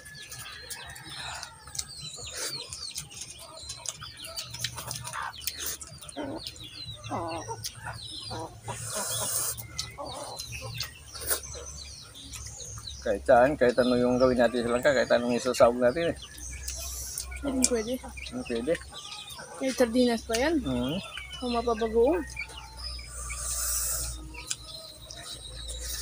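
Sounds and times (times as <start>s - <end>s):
chickens clucking: 0.0s - 26.0s
small birds chirping: 0.0s - 26.0s.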